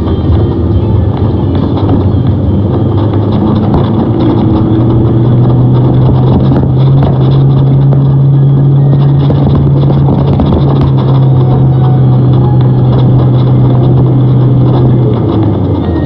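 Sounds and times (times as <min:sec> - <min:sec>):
road and tyre noise: 0:00.0 - 0:16.0
vehicle engine accelerating: 0:00.0 - 0:16.0.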